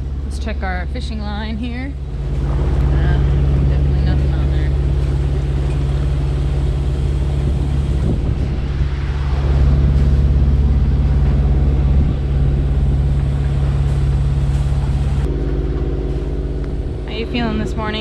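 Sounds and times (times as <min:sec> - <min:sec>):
diesel boat engine droning: 0:00.0 - 0:18.0.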